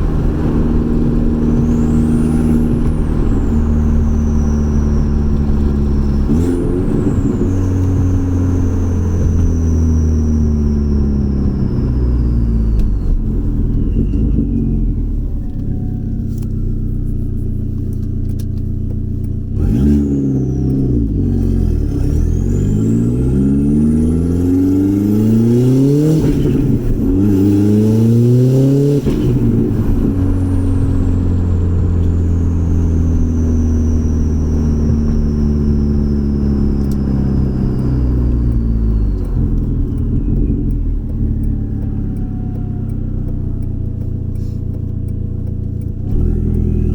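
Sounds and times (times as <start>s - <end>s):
car engine accelerating: 0.0s - 46.9s
high turbo whine: 0.0s - 46.9s.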